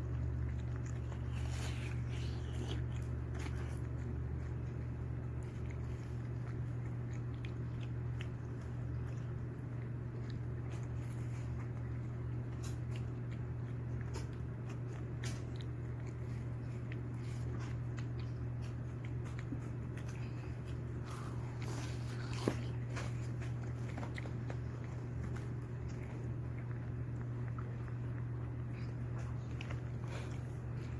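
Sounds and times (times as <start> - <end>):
dog chewing watermelon: 0.0 - 30.9
steady low hum: 0.0 - 30.9.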